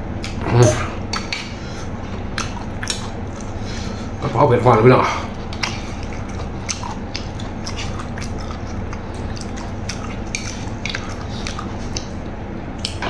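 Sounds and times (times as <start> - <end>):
steady low hum: 0.0 - 13.0
chewing: 0.2 - 4.3, 5.0 - 13.0.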